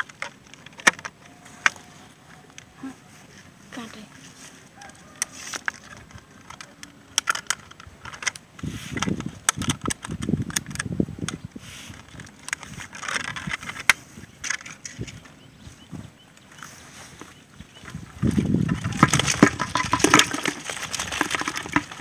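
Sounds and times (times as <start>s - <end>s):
plastic clicking and crinkling: 0.0s - 3.5s, 4.8s - 15.3s, 17.9s - 22.0s.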